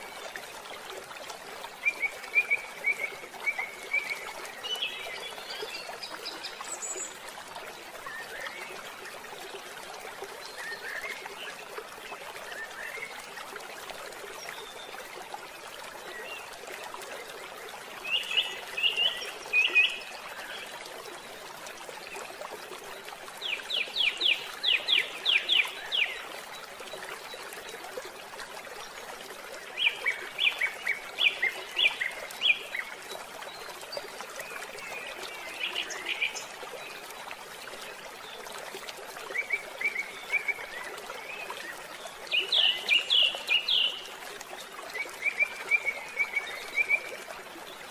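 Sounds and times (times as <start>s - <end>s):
stream water rushing: 0.0s - 47.9s
birdsong with chirps and trills: 1.7s - 9.7s, 14.2s - 21.4s, 22.0s - 27.8s, 29.5s - 38.4s, 39.2s - 47.9s.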